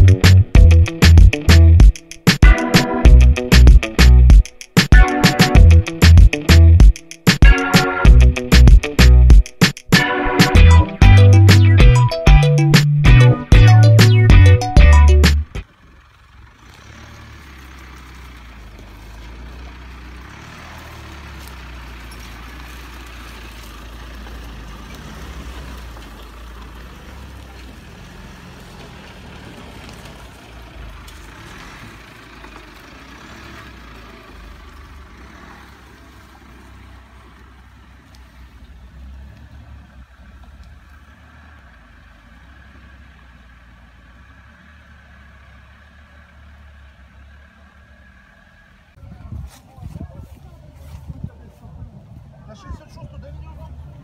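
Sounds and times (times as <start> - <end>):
suv engine low rumble: 0.0 - 4.5, 5.1 - 7.0, 7.6 - 9.4, 10.1 - 54.0.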